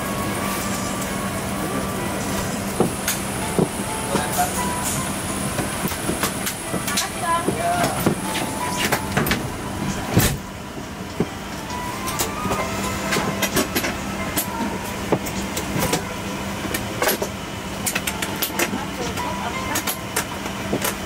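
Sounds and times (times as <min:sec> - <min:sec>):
cabin air system hum: 0:00.0 - 0:21.0.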